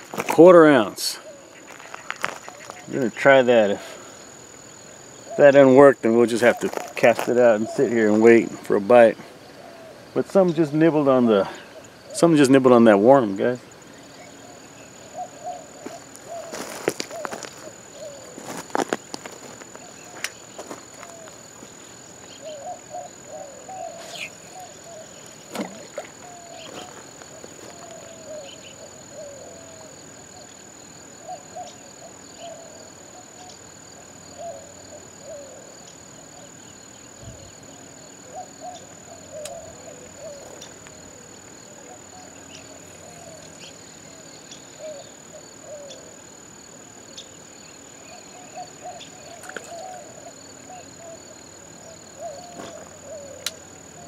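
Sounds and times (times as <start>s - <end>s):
insect trilling: 0.0s - 54.0s
low wavering calls: 0.7s - 10.6s, 13.7s - 54.0s.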